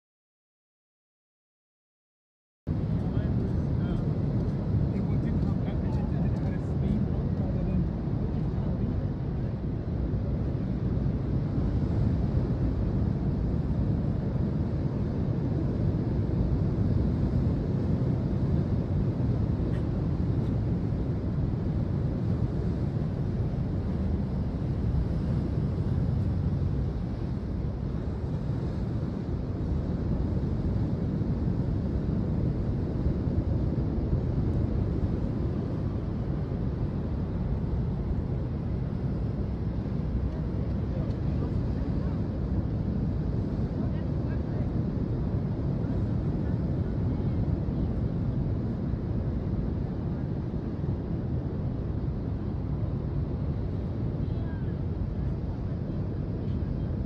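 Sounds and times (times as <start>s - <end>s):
wind buffeting microphone: 2.7s - 57.0s.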